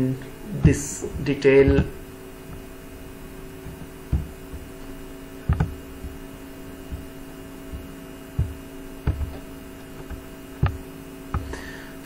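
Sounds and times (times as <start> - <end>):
electrical mains hum: 0.0 - 12.0
dull thumps: 0.5 - 11.7.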